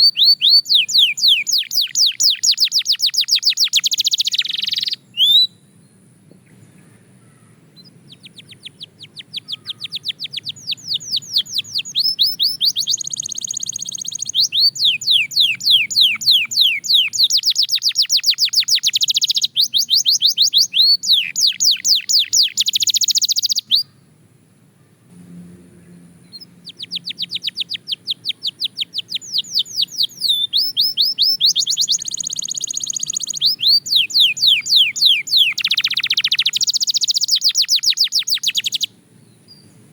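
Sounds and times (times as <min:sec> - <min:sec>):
canary singing trills: 0:00.0 - 0:24.3, 0:25.8 - 0:39.9.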